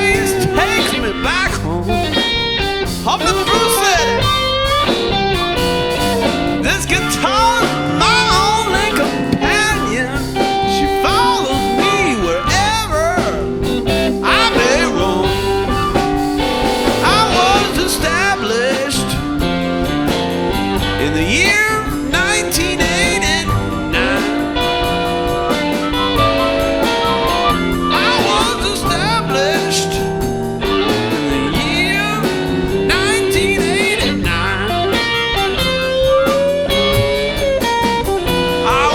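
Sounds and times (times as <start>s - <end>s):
electric guitar bent lead lines: 0.0s - 38.9s
live band playing: 0.0s - 38.9s.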